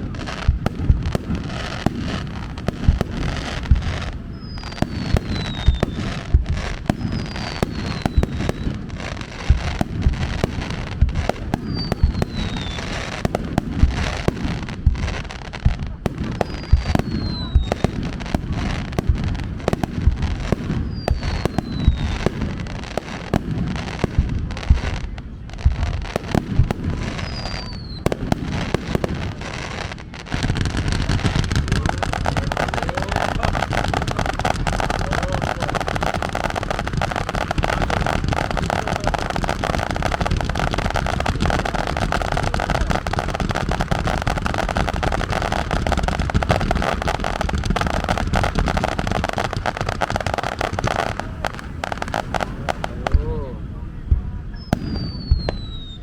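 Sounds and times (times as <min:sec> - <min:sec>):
descending firework whistles: 0:00.0 - 0:15.3, 0:16.0 - 0:25.4, 0:26.1 - 0:53.2, 0:54.5 - 0:56.0
fireworks bursting: 0:00.0 - 0:56.0
fireworks crackling: 0:00.0 - 0:56.0.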